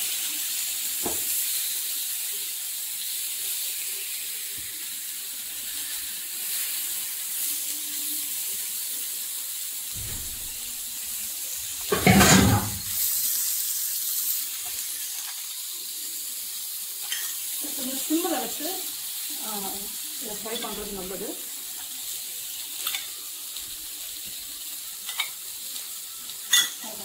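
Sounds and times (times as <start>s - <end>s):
yam slices sizzling on griddle: 0.0s - 27.0s.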